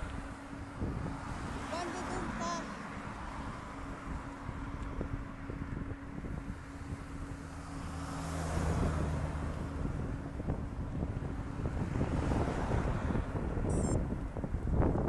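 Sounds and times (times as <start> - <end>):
passing motor traffic hum: 0.0 - 15.0
wind buffeting microphone: 0.0 - 15.0.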